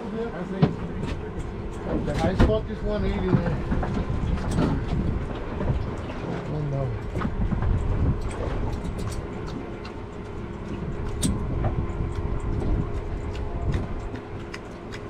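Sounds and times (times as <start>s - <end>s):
outboard motor running: 0.0s - 15.0s
wind and water rumble: 0.0s - 15.0s.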